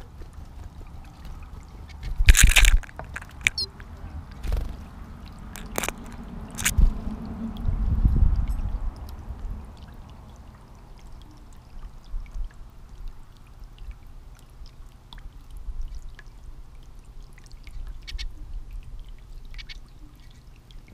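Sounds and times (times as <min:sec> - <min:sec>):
fountain bubbling and trickling: 0:00.0 - 0:20.9.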